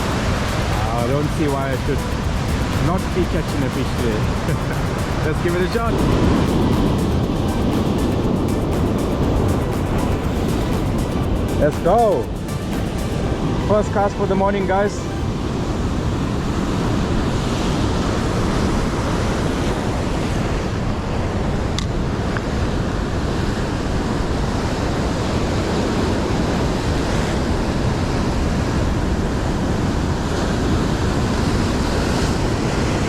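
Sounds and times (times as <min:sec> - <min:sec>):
surf washing against rocks: 0:00.0 - 0:33.0.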